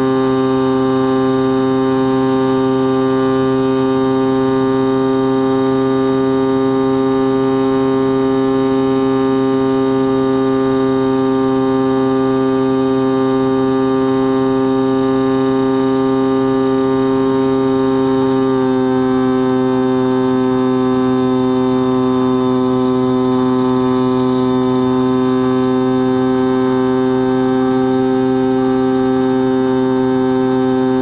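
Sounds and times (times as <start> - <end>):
electric motor and propeller buzzing: 0.0 - 31.0.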